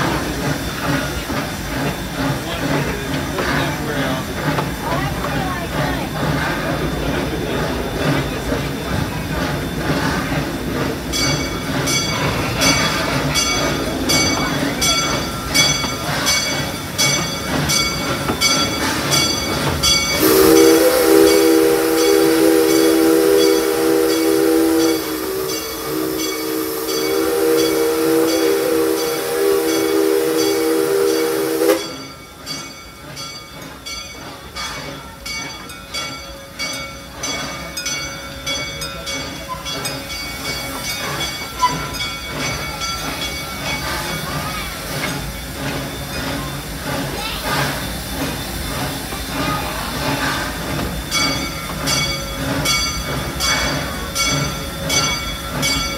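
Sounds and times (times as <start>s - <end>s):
hiss of steam: 0.0s - 55.9s
train clatter: 0.0s - 55.9s
steam locomotive chime whistle: 8.0s - 55.9s.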